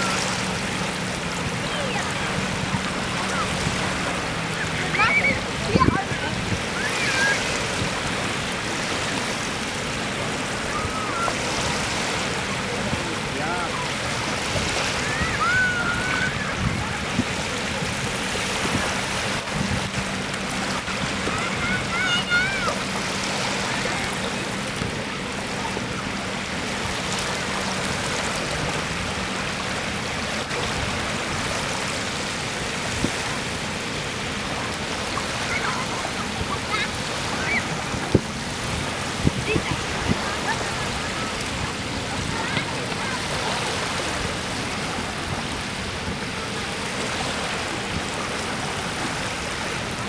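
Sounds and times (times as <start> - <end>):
small waves lapping on shore: 0.0 - 50.0.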